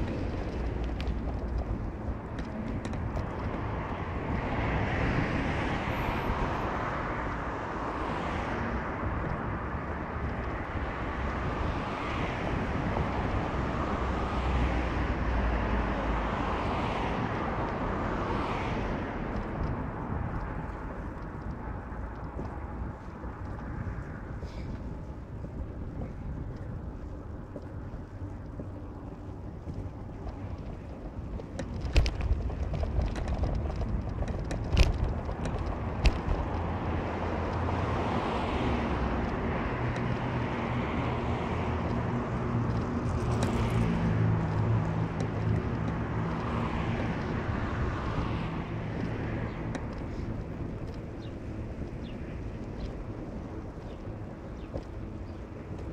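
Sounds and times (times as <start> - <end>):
car road and engine noise: 0.0 - 55.9
steady engine hum: 0.0 - 55.9.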